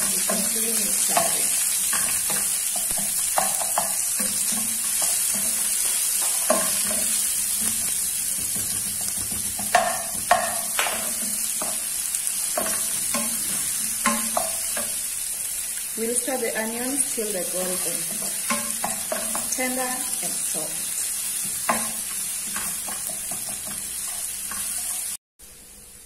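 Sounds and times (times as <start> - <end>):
spatula scraping and knocking pan: 0.0 - 15.1, 17.5 - 25.2
food sizzling in hot oil: 0.0 - 26.0.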